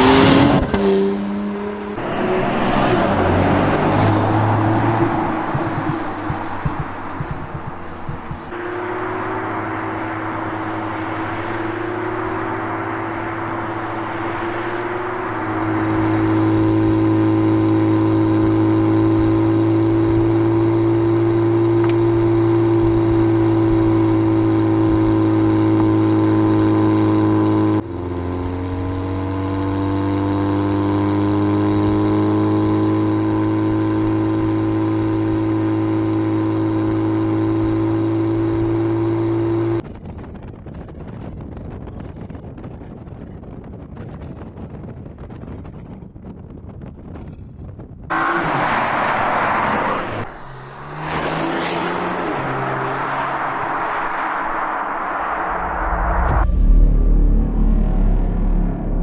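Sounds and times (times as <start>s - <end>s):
car engine and exhaust droning: 0.0s - 39.8s, 48.1s - 59.0s.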